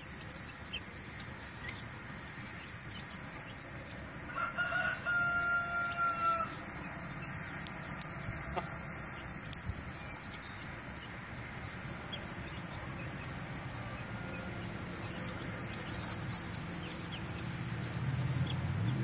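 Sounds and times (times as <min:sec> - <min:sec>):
chicks peeping: 0:00.0 - 0:19.0
crickets trilling: 0:00.0 - 0:19.0.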